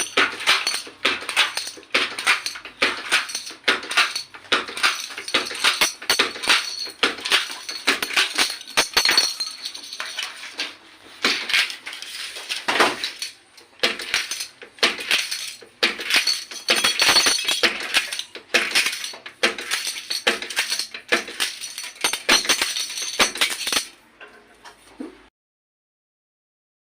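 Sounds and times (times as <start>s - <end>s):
badge machine clattering: 0.0s - 24.0s.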